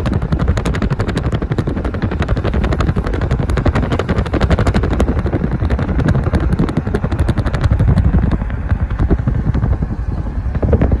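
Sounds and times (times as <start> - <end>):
car road noise: 0.0 - 11.0
strong low rumble: 0.0 - 11.0
wind buffeting microphone: 0.0 - 11.0.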